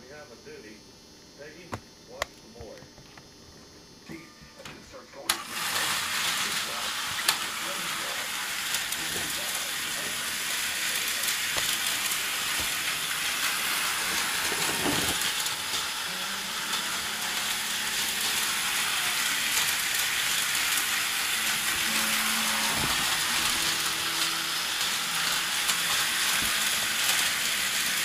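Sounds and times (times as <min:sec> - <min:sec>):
toy slot truck motors whirring: 0:05.2 - 0:28.0.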